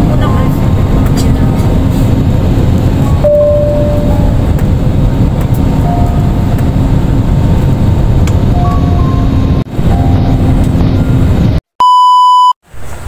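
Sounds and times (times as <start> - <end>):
jet engine and airflow rush: 0.0 - 11.6.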